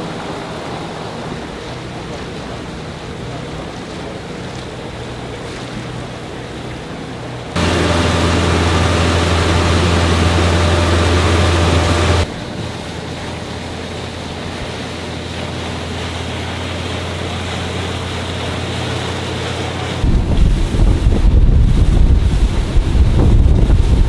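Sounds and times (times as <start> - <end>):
boat engine droning: 0.0 - 24.0
wind and water rushing: 0.0 - 24.0.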